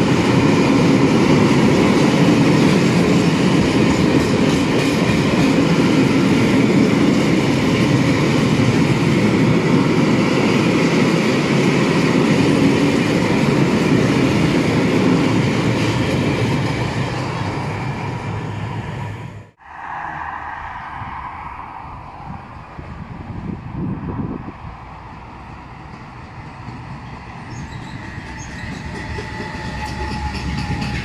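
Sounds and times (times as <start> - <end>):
freight train wheels rumbling on rails: 0.0 - 20.2, 22.2 - 31.0.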